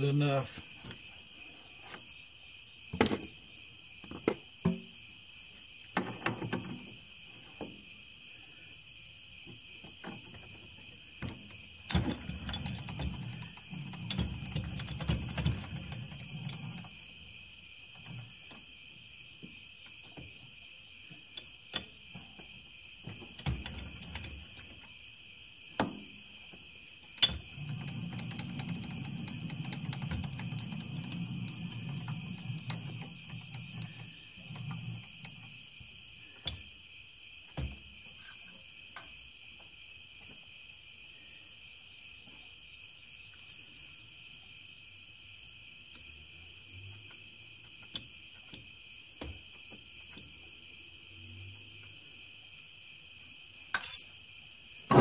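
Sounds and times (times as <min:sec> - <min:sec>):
faint high whine: 0:00.0 - 0:55.0.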